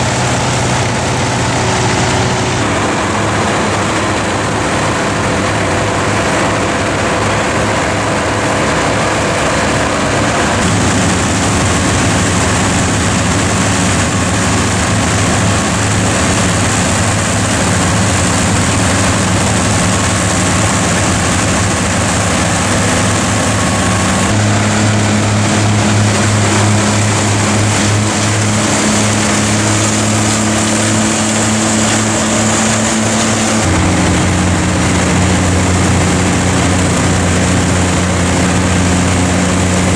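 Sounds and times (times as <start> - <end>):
forage harvester rushing noise: 0.0 - 39.9
tractor diesel engine: 0.0 - 39.9.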